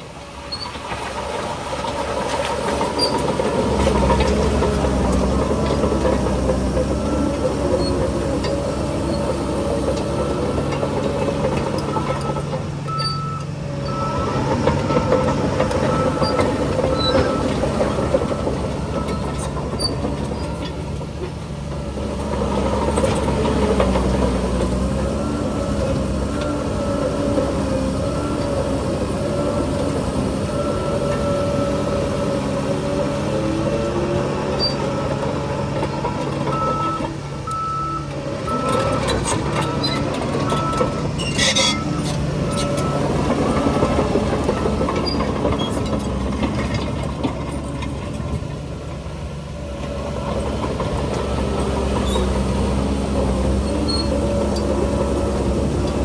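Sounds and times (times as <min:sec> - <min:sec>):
bulldozer diesel engine under load: 0:00.0 - 0:56.0
steel tracks clanking: 0:00.0 - 0:56.0.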